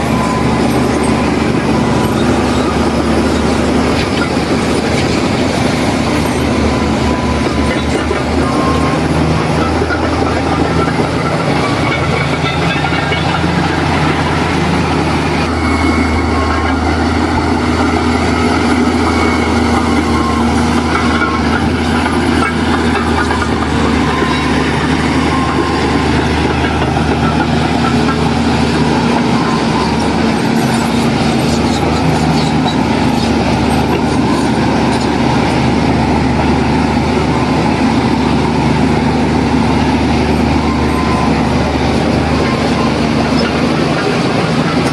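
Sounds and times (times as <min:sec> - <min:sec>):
heavy machine diesel engine running: 0:00.0 - 0:44.9.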